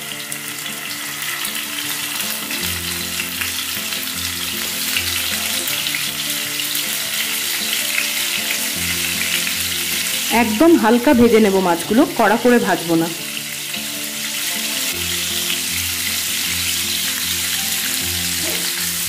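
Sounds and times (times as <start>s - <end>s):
fish sizzling in frying pan: 0.0s - 19.0s
soft background music: 0.0s - 19.0s.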